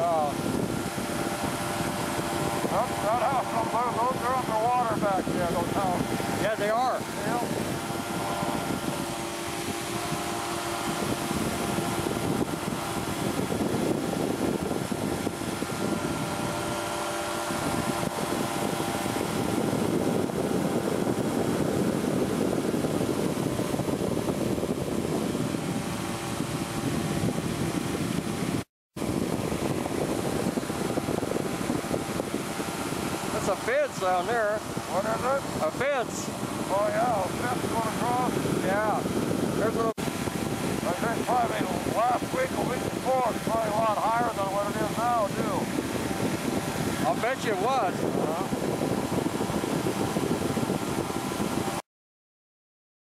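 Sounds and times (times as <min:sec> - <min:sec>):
engine and propeller drone: 0:00.0 - 0:51.8
rushing air: 0:00.0 - 0:51.8.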